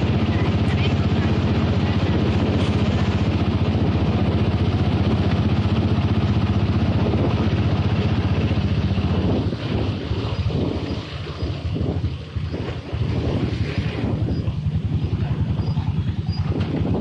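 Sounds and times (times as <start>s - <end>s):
rough surf: 0.0s - 17.0s
small engine droning: 0.0s - 17.0s
wind: 0.0s - 17.0s.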